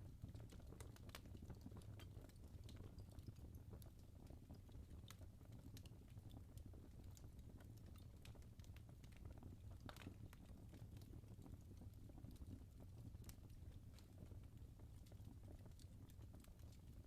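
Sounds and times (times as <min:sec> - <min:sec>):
faint wood fire crackling: 0:00.0 - 0:17.0.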